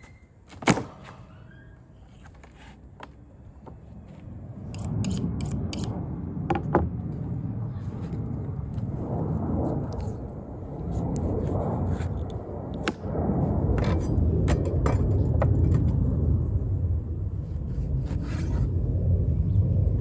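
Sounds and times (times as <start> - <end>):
low rumble: 3.5 - 20.0.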